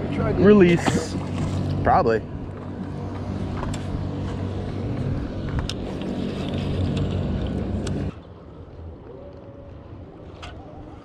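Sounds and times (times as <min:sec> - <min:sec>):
motorboat engine running: 0:00.0 - 0:09.0.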